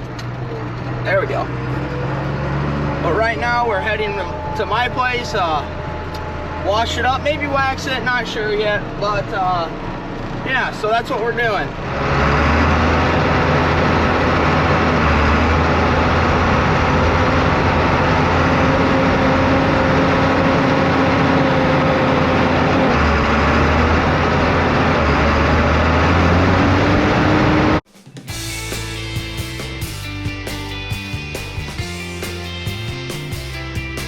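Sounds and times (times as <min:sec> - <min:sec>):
tractor diesel engine running: 0:00.0 - 0:27.8.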